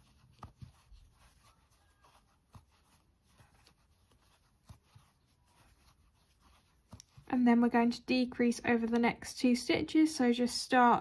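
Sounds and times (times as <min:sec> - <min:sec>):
crochet hook scratching yarn: 0:00.0 - 0:09.6.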